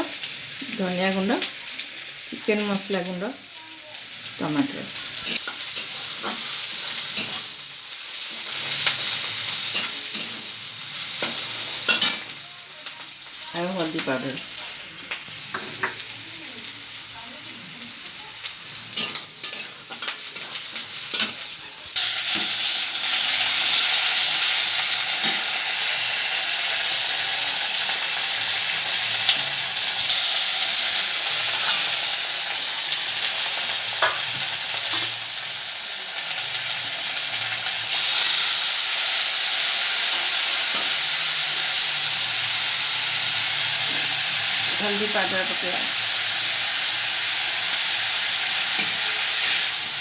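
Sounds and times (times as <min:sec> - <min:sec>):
food sizzling in oil: 0:00.0 - 0:50.0.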